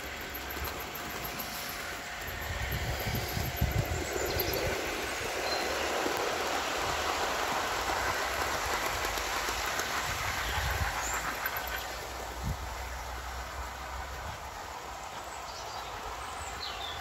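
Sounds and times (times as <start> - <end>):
model train wheels rattling: 0.0 - 14.0.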